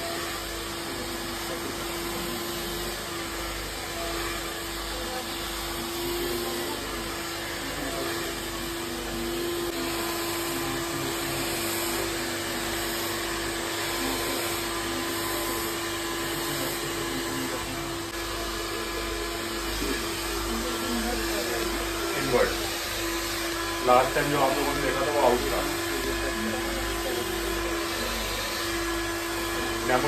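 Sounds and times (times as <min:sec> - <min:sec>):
hair dryer blowing: 0:00.0 - 0:30.0.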